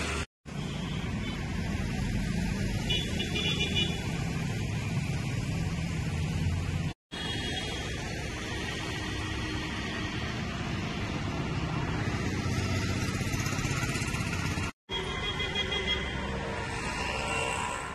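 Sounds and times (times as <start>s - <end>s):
street traffic noise: 0.0s - 17.9s.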